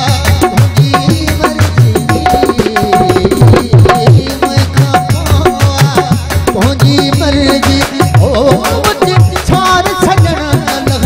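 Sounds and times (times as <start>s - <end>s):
hand drum rhythm: 0.0s - 11.0s
harmonium: 0.0s - 11.0s
man singing: 0.0s - 11.0s.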